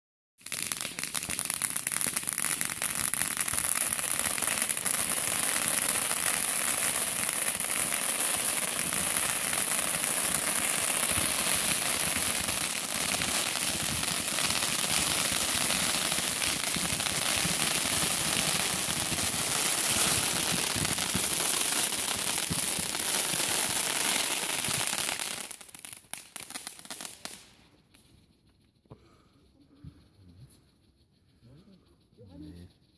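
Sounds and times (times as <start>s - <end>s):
fireworks crackling: 0.4s - 28.7s.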